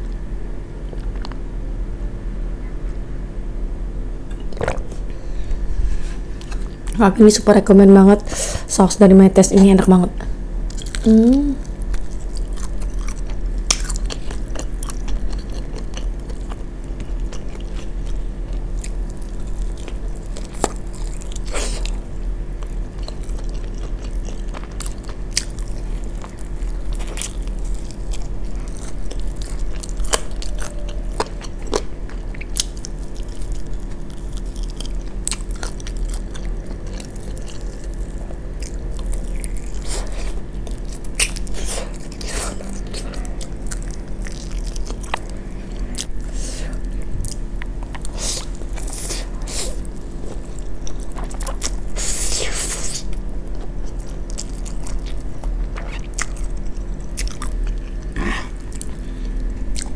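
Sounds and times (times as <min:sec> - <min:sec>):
low hum: 0:00.0 - 0:59.9
teeth crunching on bone: 0:10.6 - 0:51.9, 0:52.9 - 0:59.9
chewing chicken wings: 0:10.7 - 0:52.0, 0:52.8 - 0:59.9.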